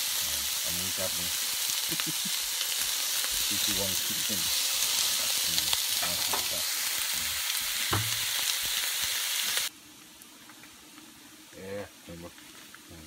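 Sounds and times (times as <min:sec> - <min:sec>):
pork sizzling in a pan: 0:00.0 - 0:13.0.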